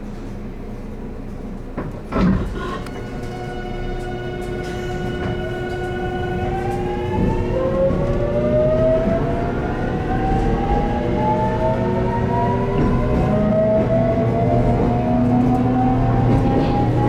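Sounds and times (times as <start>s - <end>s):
electric train motors whining: 2.4s - 17.0s.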